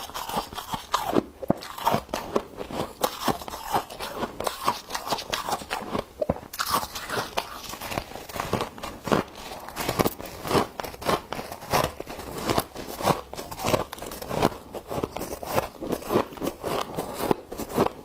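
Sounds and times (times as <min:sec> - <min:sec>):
frost crunching: 0:00.0 - 0:18.0.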